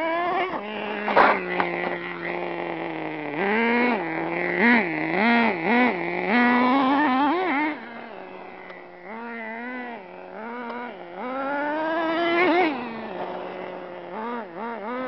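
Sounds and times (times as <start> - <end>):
small nitro engine revving: 0.0 - 15.0.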